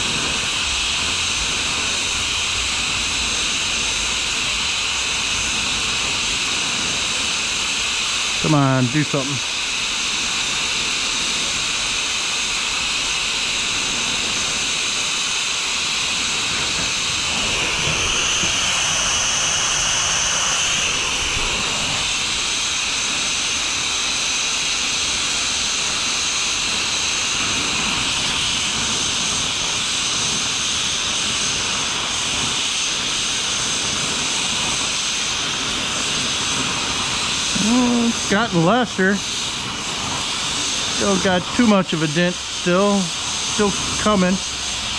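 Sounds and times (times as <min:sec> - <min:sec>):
gas torch flame hissing: 0:00.0 - 0:44.9.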